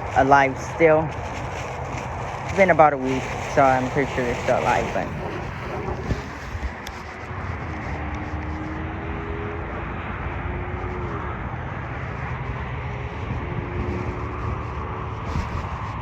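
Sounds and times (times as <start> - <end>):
distant motor vehicle drone: 0.0 - 16.0
low outdoor rumble: 0.0 - 16.0.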